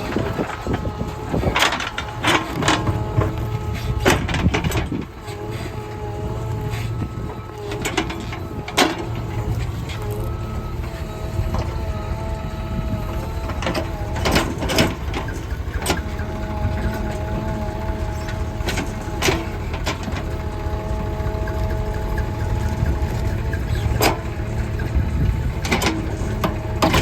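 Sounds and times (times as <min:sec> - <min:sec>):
diesel engine whining under load: 0:00.0 - 0:27.0.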